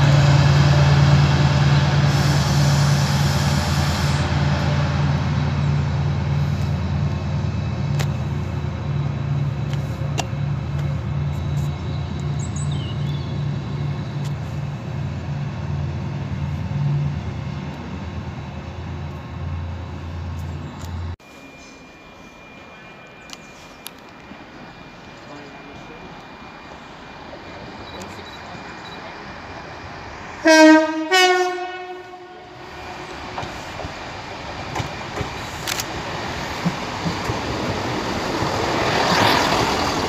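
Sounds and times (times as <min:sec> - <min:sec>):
diesel locomotive engine throbbing: 0:00.0 - 0:40.0.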